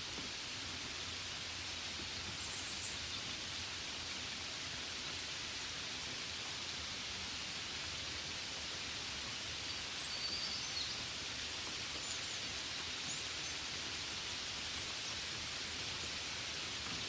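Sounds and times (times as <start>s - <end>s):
gentle rain hissing: 0.0s - 17.0s.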